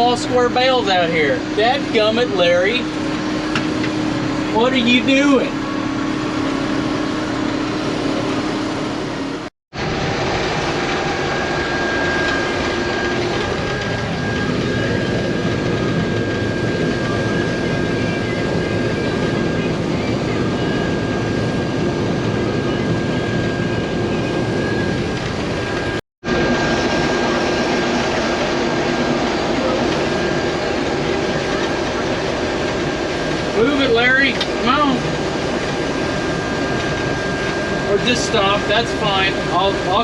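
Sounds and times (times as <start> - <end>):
combine harvester drone: 0.0 - 40.0
high machine whine: 0.0 - 40.0.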